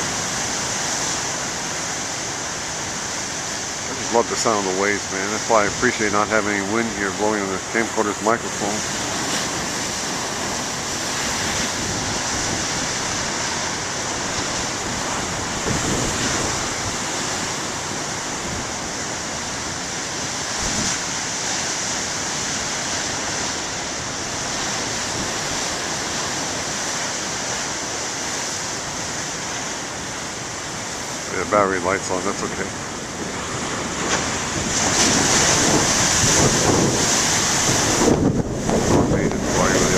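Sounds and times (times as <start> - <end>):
ocean waves crashing on beach: 0.0 - 39.9.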